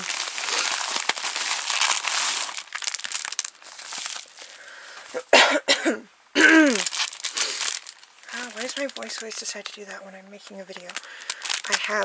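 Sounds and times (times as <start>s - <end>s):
plastic packaging crinkling: 0.0s - 5.1s, 6.7s - 12.0s.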